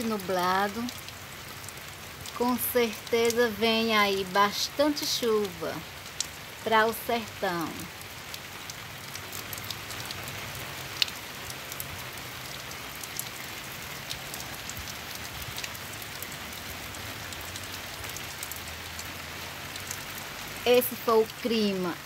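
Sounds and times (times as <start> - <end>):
rain falling: 0.0 - 22.0
raindrop ticks: 0.0 - 22.0.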